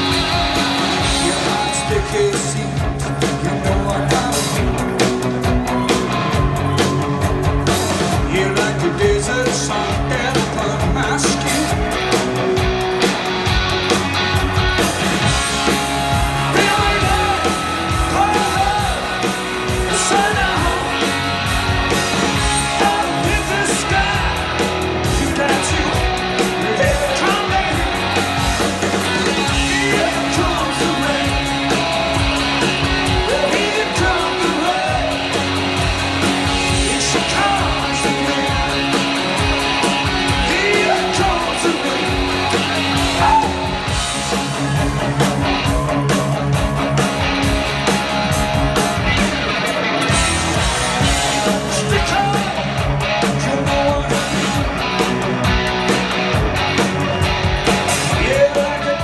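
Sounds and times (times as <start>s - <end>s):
man singing lead vocal: 0.0s - 12.6s, 16.3s - 46.4s, 51.0s - 55.0s, 57.9s - 59.0s
live rock band playing: 0.0s - 59.0s.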